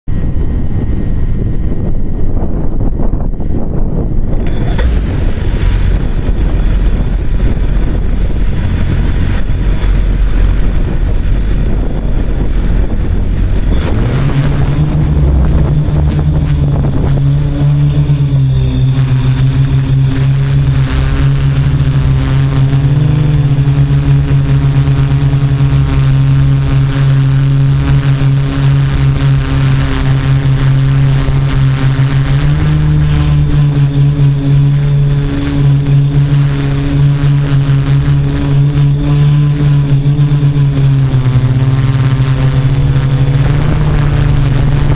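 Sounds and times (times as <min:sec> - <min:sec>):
drone motors buzzing hum: 0:00.0 - 0:44.9
low windy rumble: 0:00.0 - 0:44.9.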